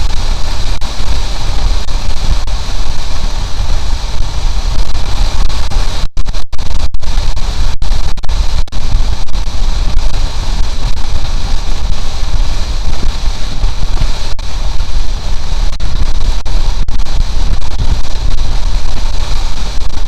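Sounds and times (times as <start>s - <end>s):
motorcycle engine: 0.0s - 6.4s, 7.1s - 20.0s
wind buffeting microphone: 0.0s - 20.0s.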